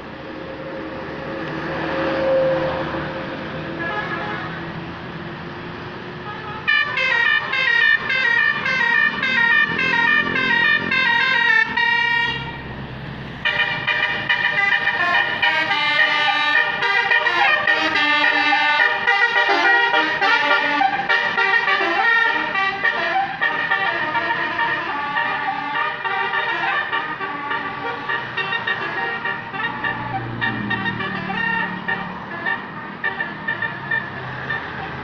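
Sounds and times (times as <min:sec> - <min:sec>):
steady vehicle noise: 0:00.0 - 0:35.0
bus musical horn jingle: 0:02.2 - 0:04.8, 0:06.2 - 0:12.6, 0:13.4 - 0:35.0.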